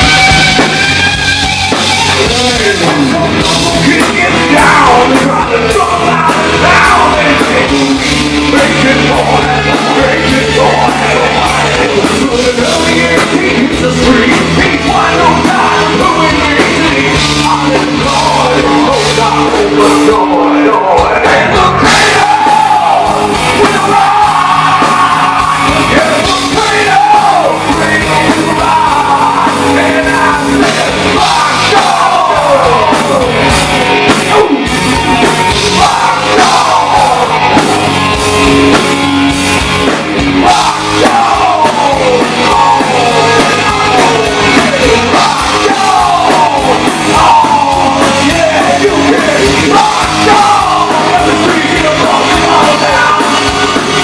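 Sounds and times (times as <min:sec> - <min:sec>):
singer yelling: 0:00.0 - 0:39.0, 0:39.7 - 0:54.0
rock band playing live: 0:00.0 - 0:54.0.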